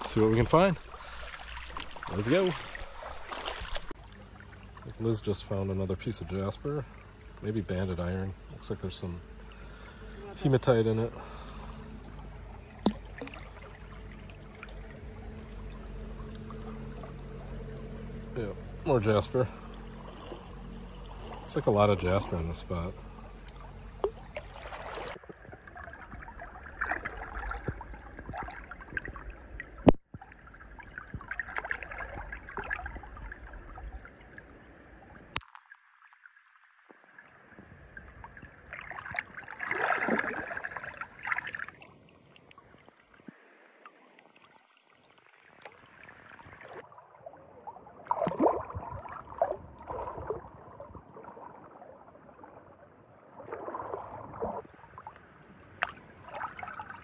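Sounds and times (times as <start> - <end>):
river water splashing: 0.0 - 57.0.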